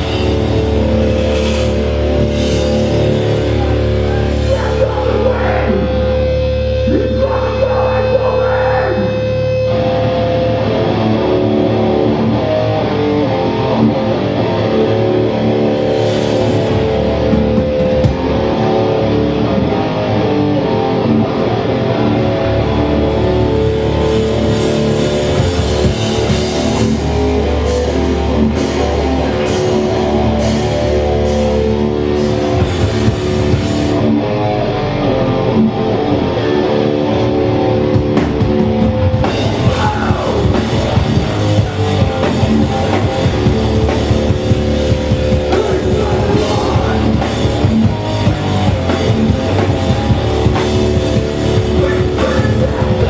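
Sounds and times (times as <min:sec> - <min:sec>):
guitar feedback: 0:00.0 - 0:53.0
punk band playing live: 0:00.0 - 0:53.0.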